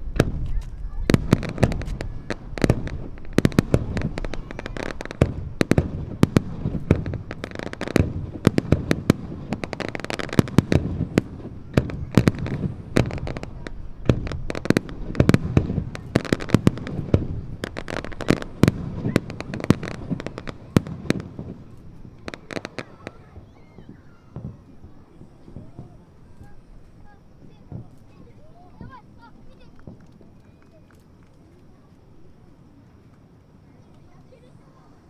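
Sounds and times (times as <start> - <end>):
distant fireworks bangs and crackles: 0.0 - 35.0.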